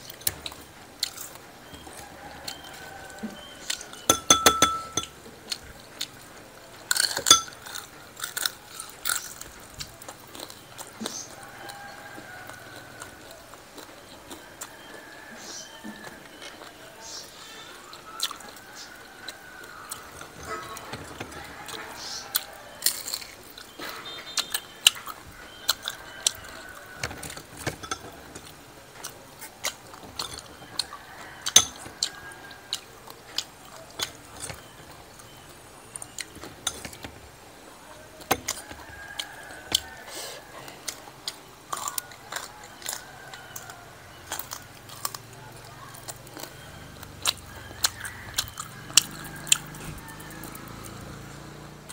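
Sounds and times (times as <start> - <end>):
crunchy chewing: 0.0 - 4.1, 5.0 - 51.9.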